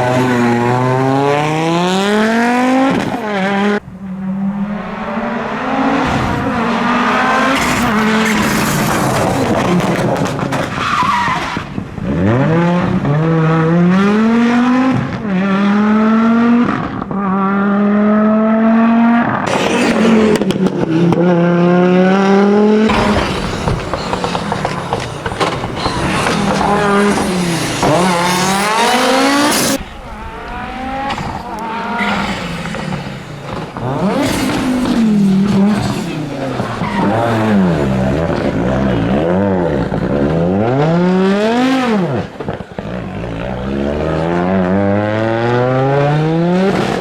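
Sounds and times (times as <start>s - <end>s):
rally car engine accelerating hard: 0.0s - 47.0s.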